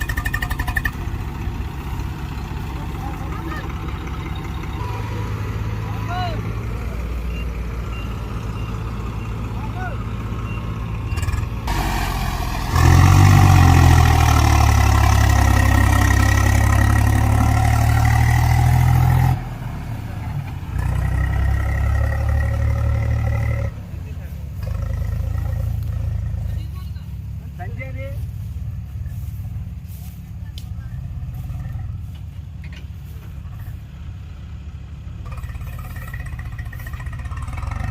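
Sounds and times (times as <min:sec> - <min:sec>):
heavy diesel engine running: 0:00.0 - 0:37.9.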